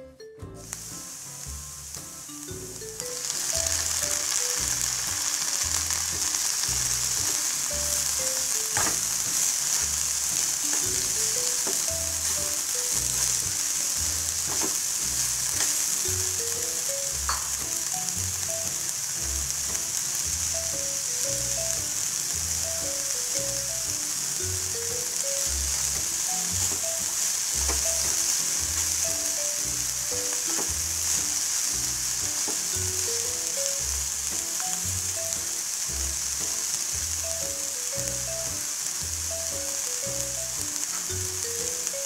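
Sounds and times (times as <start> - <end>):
background music with bass beat: 0.4 - 41.6
onions and tomatoes sizzling in oil: 0.4 - 42.0.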